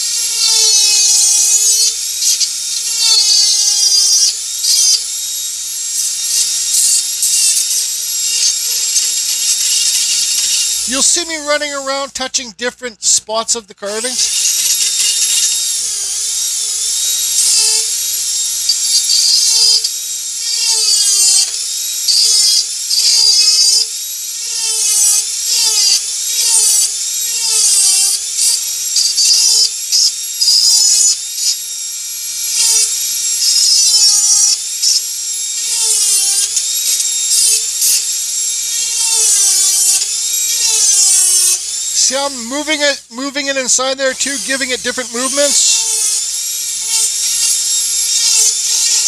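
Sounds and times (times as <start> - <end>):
rotary tool carving wood: 0.0 - 49.0.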